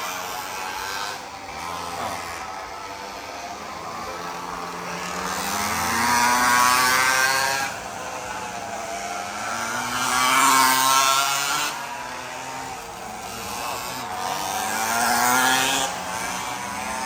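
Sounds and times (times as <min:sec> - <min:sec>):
mini bike engines racing: 0:00.0 - 0:17.0.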